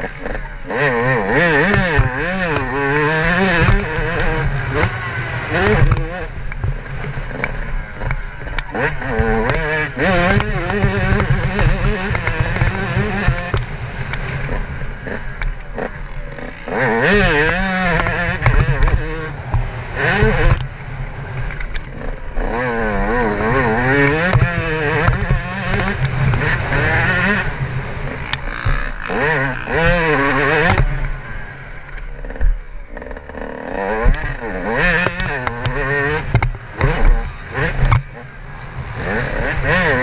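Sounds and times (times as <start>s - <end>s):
motocross engine revving: 0.0s - 40.0s.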